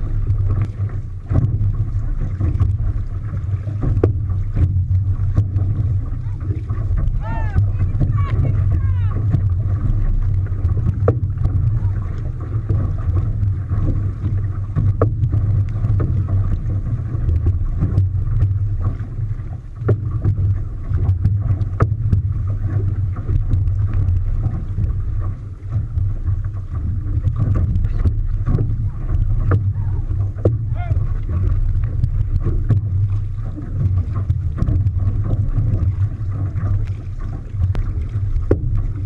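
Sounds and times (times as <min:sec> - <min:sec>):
boat engine rumble: 0:00.0 - 0:39.0
water splashes and knocks: 0:00.0 - 0:39.0
wind on microphone: 0:00.0 - 0:39.0.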